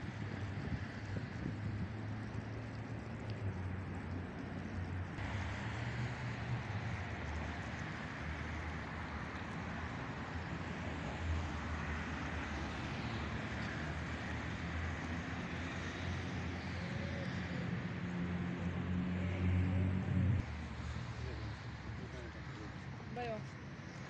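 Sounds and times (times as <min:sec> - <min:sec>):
even outdoor hiss: 0:00.0 - 0:24.0
road traffic rumble: 0:00.0 - 0:24.0.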